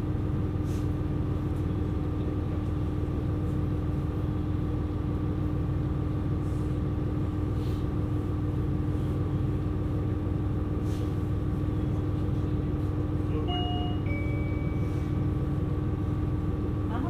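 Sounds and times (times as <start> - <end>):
railcar engine rumble: 0.0 - 17.0.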